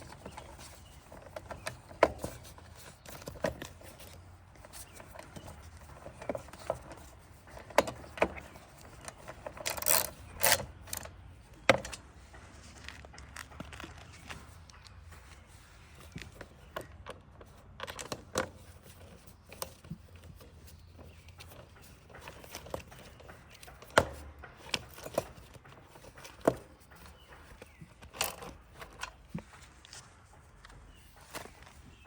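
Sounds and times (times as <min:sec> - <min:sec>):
clicks and knocks of tools: 0:00.0 - 0:15.3, 0:16.0 - 0:32.0.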